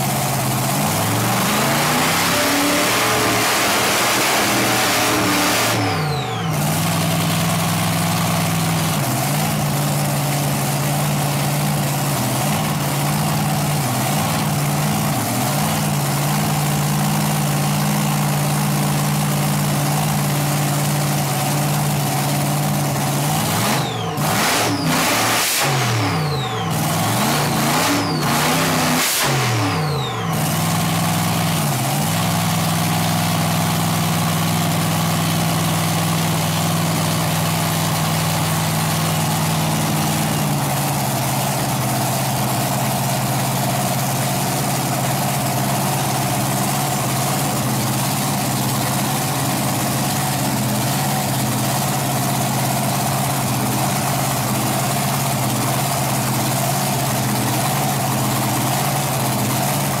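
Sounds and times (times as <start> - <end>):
engine idling: 0.0 - 60.0.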